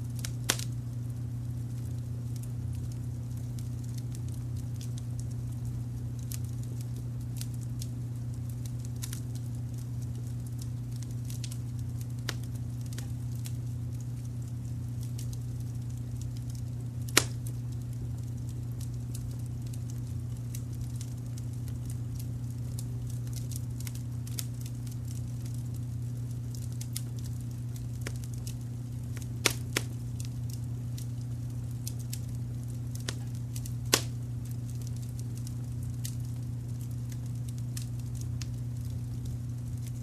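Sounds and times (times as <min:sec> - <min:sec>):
wood fire crackling: 0:00.0 - 0:40.0
sharp pops of fire: 0:00.1 - 0:40.0.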